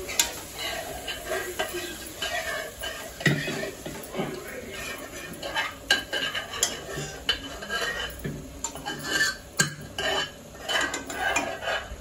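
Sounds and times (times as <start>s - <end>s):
spoon scraping metal pot: 0.0s - 12.0s.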